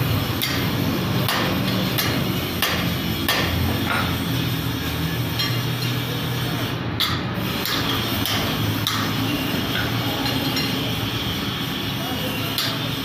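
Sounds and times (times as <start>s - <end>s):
low workshop hum: 0.0s - 13.0s.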